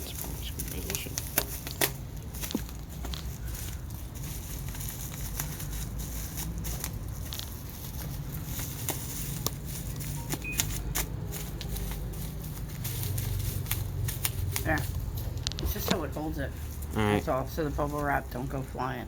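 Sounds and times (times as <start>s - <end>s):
bubble wrap rustling and crinkling: 0.0s - 19.0s.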